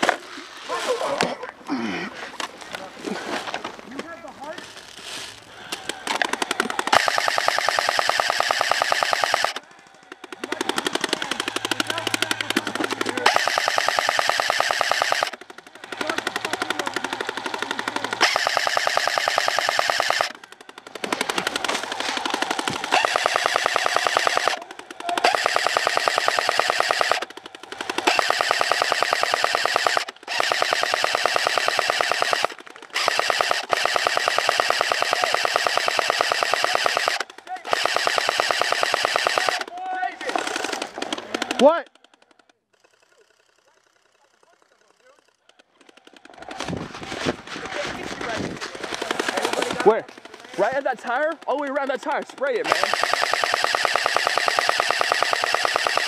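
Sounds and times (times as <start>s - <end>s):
airsoft gun full-auto bursts: 5.6s - 56.0s.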